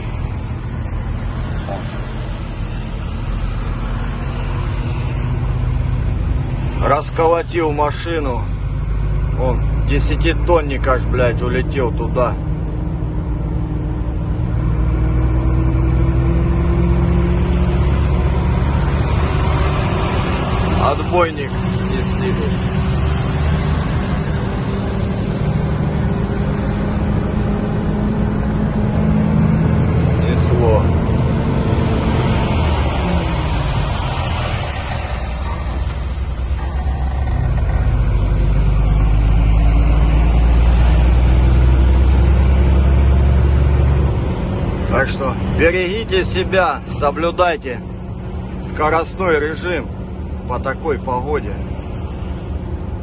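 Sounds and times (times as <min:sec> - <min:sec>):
road rumble: 0:00.0 - 0:53.0
truck diesel engine running: 0:00.0 - 0:53.0.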